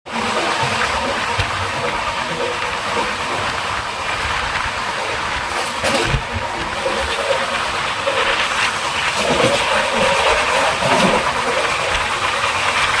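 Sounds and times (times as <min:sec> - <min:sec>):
train wheel-on-rail rush: 0:00.1 - 0:13.0.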